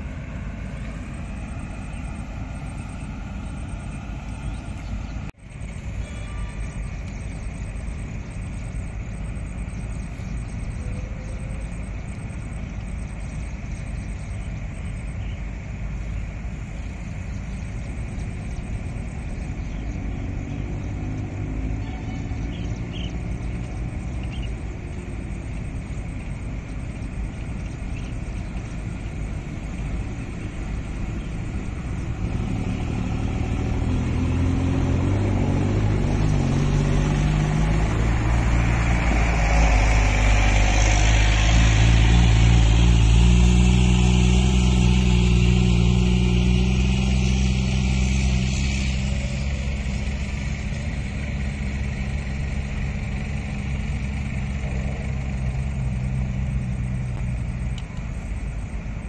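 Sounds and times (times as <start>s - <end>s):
motor engine running: 0.0s - 59.0s.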